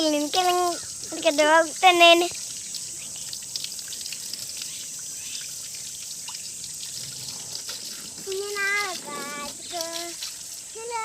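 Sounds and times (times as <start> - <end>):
water dripping: 0.0 - 11.0
water trickling and splashing: 0.0 - 11.0.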